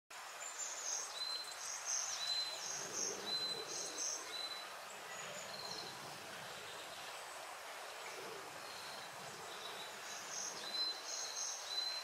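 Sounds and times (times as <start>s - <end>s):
stream babbling over rocks: 0.2s - 12.0s.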